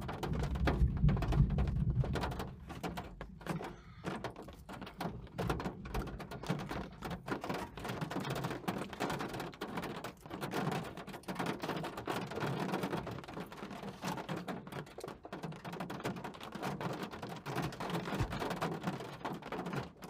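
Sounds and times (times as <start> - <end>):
rain pelting a window: 0.0 - 20.0.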